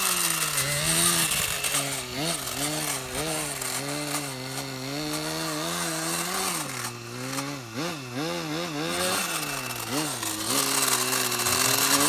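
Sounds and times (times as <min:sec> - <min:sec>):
small model engine revving: 0:00.0 - 0:12.0.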